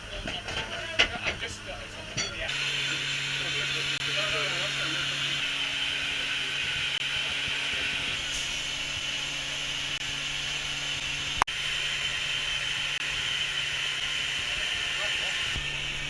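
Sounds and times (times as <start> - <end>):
steam hissing: 2.5 - 16.0.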